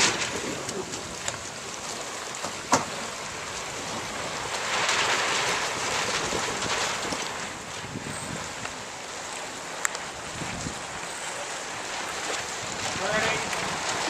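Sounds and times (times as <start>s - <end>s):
water splashing around boat: 0.0s - 14.0s
wind: 0.0s - 14.0s.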